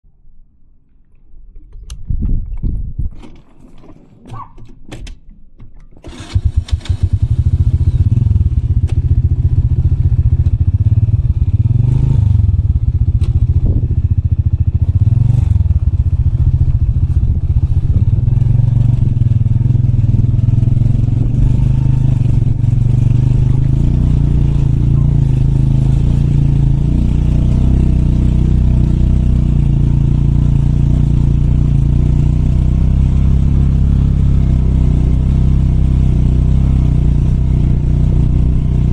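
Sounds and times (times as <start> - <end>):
motorbike engine running: 6.1 - 38.9.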